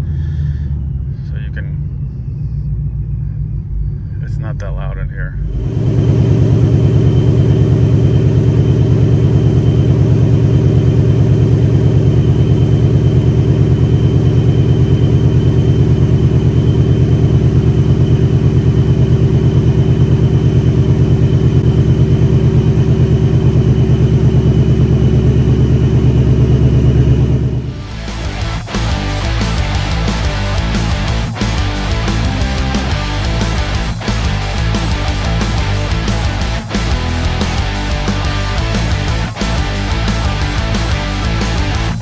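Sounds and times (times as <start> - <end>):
car engine idling: 5.2 - 42.0.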